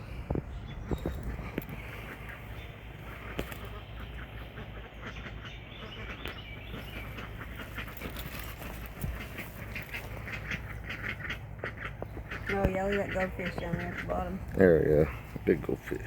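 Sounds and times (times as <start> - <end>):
birds calling: 0.0 - 16.0
low background hum: 0.0 - 16.0.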